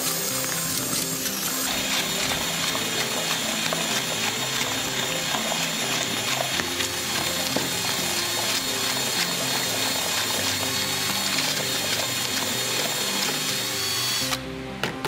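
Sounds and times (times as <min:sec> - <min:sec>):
drill with paddle mixer churning: 0:00.0 - 0:14.4.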